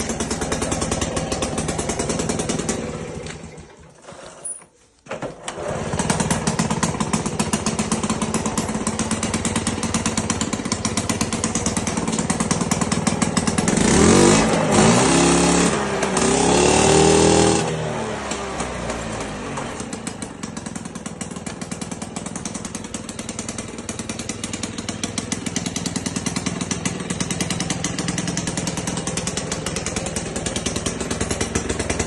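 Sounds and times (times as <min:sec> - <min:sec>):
moped engine running and revving: 0:00.0 - 0:04.2, 0:05.4 - 0:32.0.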